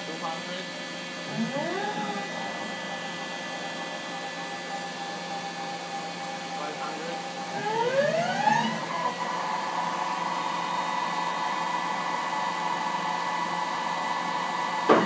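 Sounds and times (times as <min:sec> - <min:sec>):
lathe spindle whine: 0:00.1 - 0:15.0.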